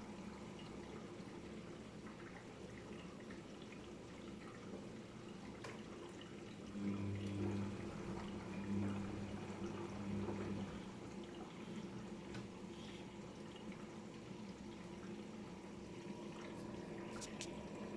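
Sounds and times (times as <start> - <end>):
washing machine motor hum: 0.0 - 17.9
water sloshing in washing machine: 0.0 - 17.9.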